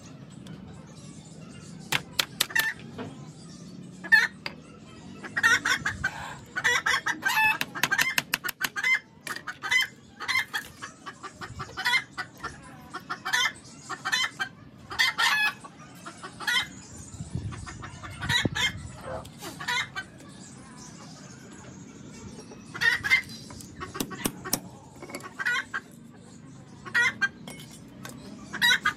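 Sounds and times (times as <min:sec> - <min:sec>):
chickens clucking: 0:01.8 - 0:28.9.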